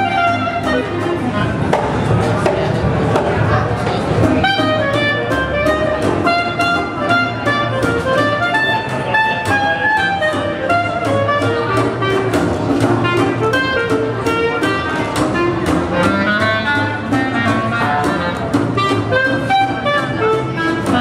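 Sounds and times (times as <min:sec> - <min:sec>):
clarinet melody: 0:00.0 - 0:01.7, 0:03.3 - 0:21.0
plucked double bass: 0:00.0 - 0:21.0.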